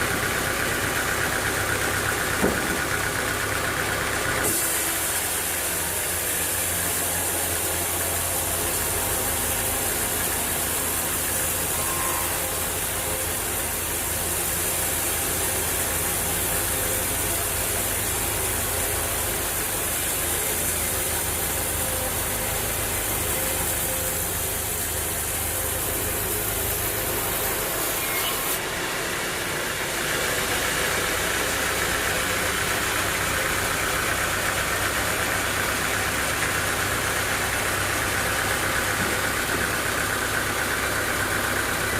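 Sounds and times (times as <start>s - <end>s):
sawmill engine running: 0.0s - 41.9s.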